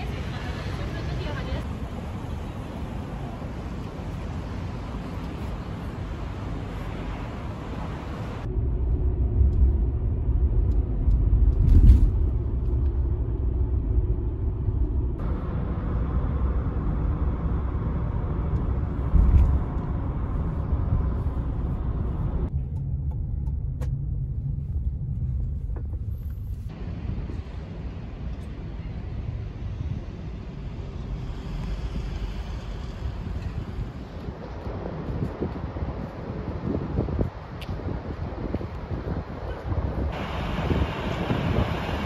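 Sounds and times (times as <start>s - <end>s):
road and engine rumble in car: 0.0s - 42.0s
street noise: 0.0s - 42.0s.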